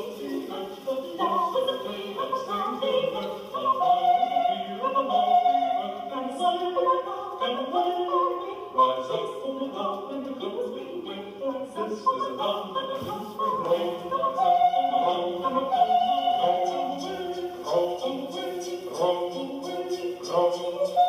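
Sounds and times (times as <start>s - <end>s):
choir singing operatically: 0.0s - 21.0s.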